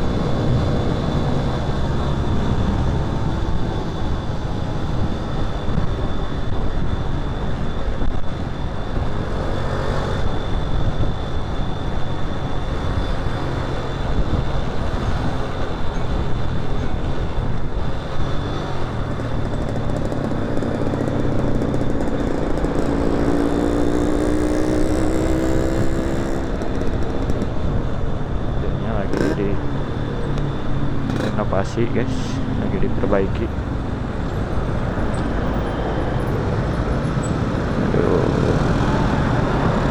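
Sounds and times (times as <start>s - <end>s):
motorcycle engines running: 0.0s - 39.9s
wind and road noise: 0.0s - 39.9s.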